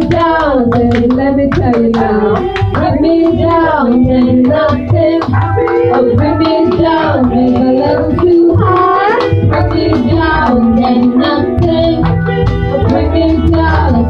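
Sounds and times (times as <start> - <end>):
electric guitars: 0.0 - 14.0
hand claps: 0.0 - 14.0
keyboard: 0.0 - 14.0
women singing together: 0.0 - 14.0.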